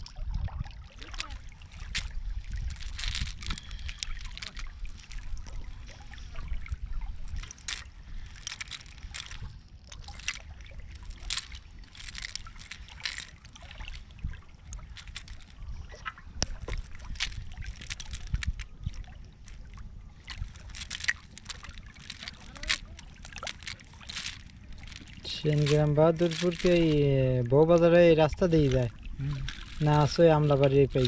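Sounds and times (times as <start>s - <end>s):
small snails clattering: 1.0s - 15.7s, 16.4s - 31.0s
cast net clicks and rustles: 1.0s - 31.0s.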